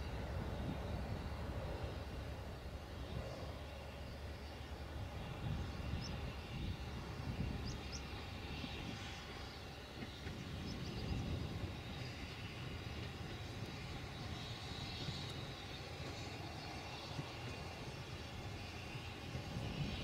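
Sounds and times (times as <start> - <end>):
steam locomotive rumbling: 0.0 - 20.0.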